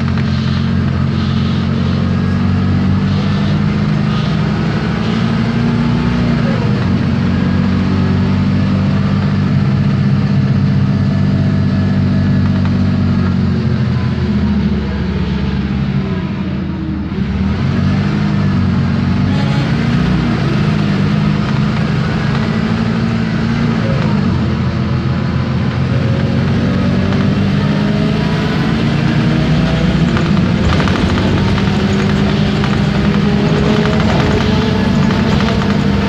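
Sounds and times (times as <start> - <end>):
gearbox whine: 0.0 - 17.4, 18.3 - 36.0
bus diesel engine under load: 0.0 - 36.0.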